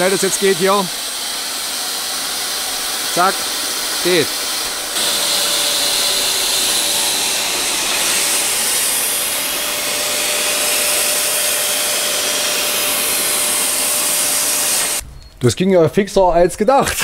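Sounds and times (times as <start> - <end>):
air compressor hissing: 0.0 - 15.1.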